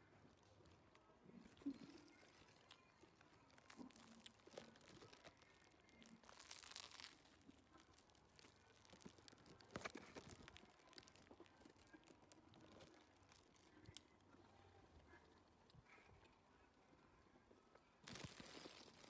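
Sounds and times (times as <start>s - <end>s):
faint crinkling: 0.0s - 19.0s.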